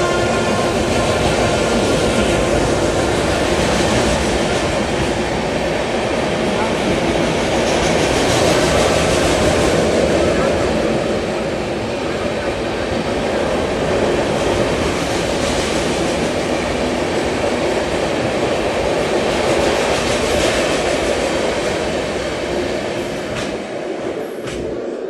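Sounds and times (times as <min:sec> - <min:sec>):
passenger train passing: 0:00.0 - 0:25.0.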